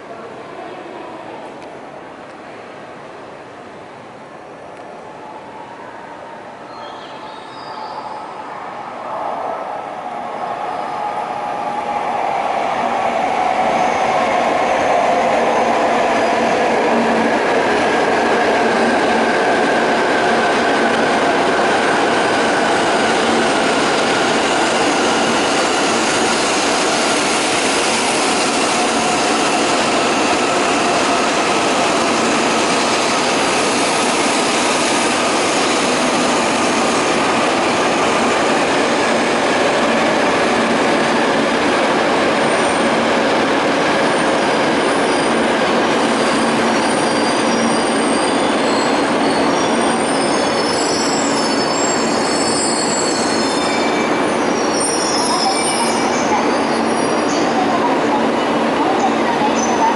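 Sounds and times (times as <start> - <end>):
train passing rush: 0.0 - 59.9.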